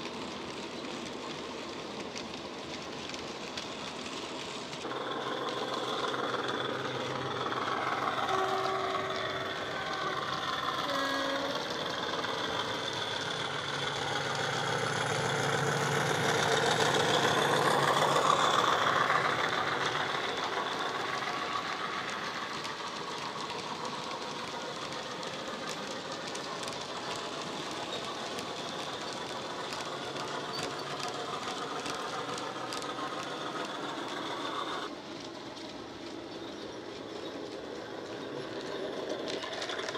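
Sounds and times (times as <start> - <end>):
model wagon wheels clicking: 0.0 - 39.9.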